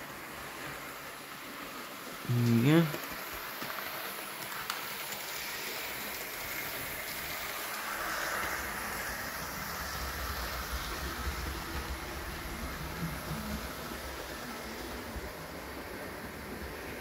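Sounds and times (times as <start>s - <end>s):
model train rolling whir: 0.0s - 17.0s.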